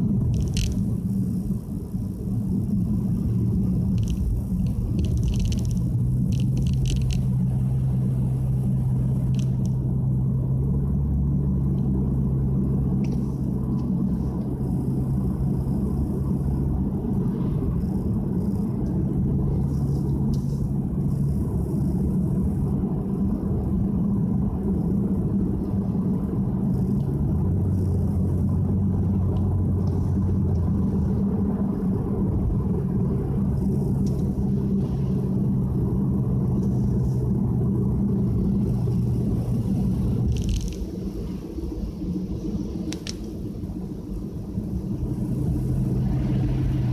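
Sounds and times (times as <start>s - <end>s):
car cabin engine and tyre drone: 0.0s - 46.9s.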